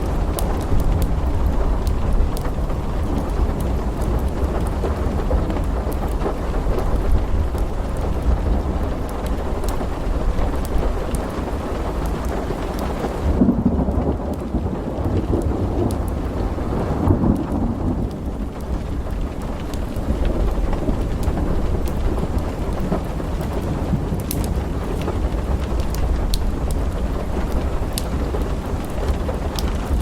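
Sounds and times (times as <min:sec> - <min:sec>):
steady rain: 0:00.0 - 0:30.0
thunder rumbling: 0:00.0 - 0:30.0.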